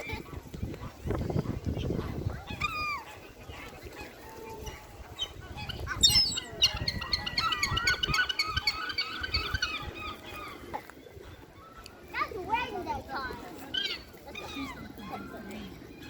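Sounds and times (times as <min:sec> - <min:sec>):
seagulls calling: 0:00.0 - 0:12.2, 0:13.2 - 0:16.0.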